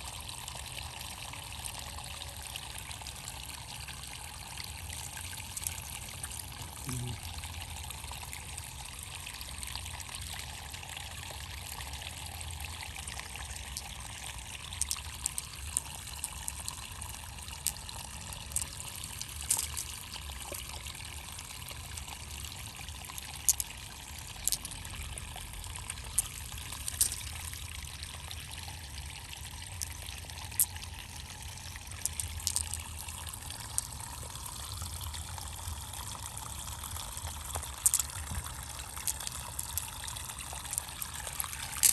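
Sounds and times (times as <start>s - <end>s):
water trickling: 0.0s - 41.9s.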